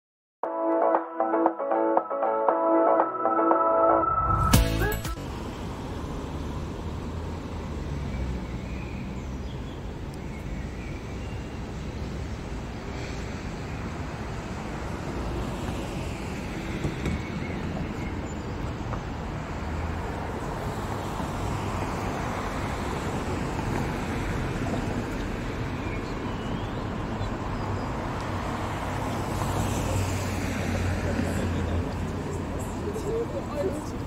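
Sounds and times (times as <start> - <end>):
vehicles passing: 1.3 - 34.0
city road traffic rumble: 4.3 - 34.0.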